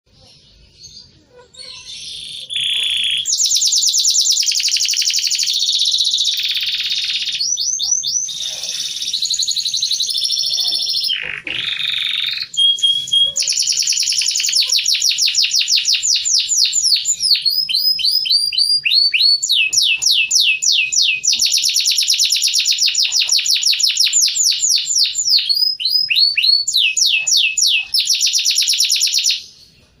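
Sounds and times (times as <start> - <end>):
canary singing trills: 0.1 - 29.9.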